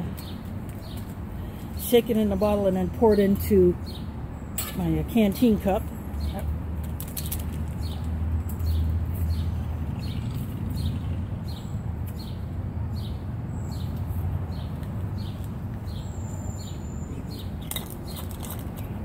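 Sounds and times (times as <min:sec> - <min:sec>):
songbird chirping: 0:01.8 - 0:06.5, 0:07.7 - 0:19.0.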